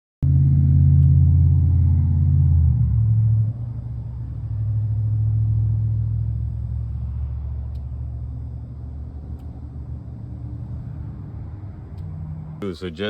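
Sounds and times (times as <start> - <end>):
car engine idling: 0.2 - 13.0.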